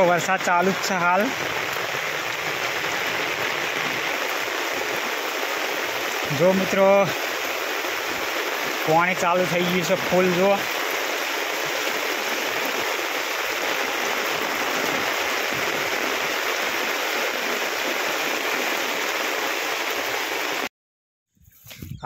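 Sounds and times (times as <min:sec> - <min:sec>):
rainwater rushing: 0:00.0 - 0:20.7.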